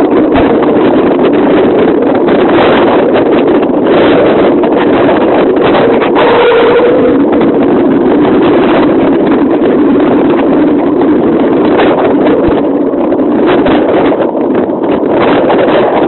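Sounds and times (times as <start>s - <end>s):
bike rattling and knocking: 0.0s - 16.0s
wind rushing over microphone: 0.0s - 16.0s.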